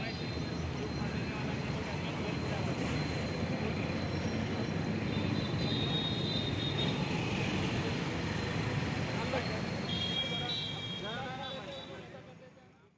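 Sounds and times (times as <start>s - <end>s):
road traffic rumble: 0.0s - 12.7s.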